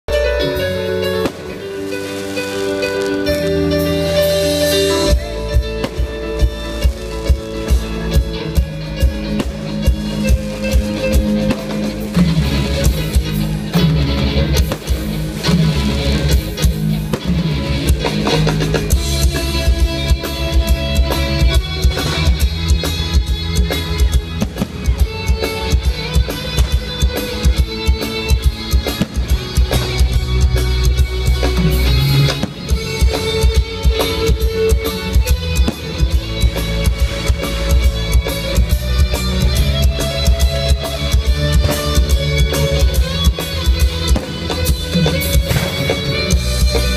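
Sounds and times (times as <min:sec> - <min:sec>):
music with drums and guitar: 0:00.1 - 0:46.9.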